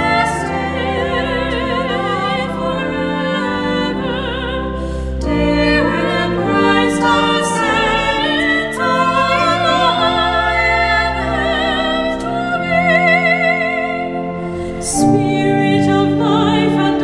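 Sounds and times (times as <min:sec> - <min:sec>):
sustained low instrument notes: 0:00.0 - 0:17.0
women singing a hymn in harmony: 0:00.0 - 0:17.0.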